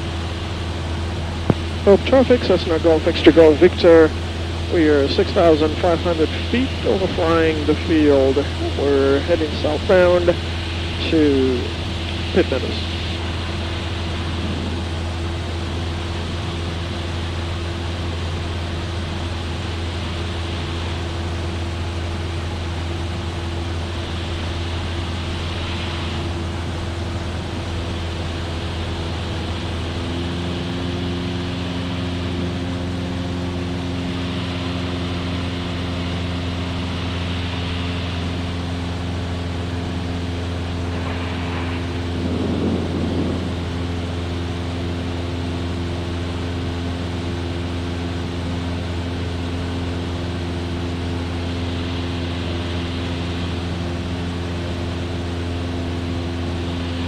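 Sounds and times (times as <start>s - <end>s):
airplane engine droning: 0.0s - 57.0s.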